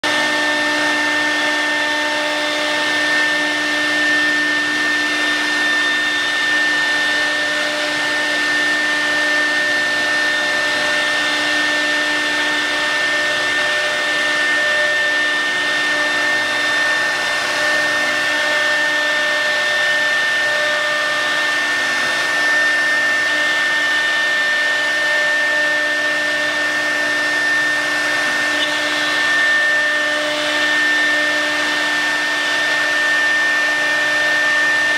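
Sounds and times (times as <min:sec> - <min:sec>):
router spindle whine: 0:00.0 - 0:34.9.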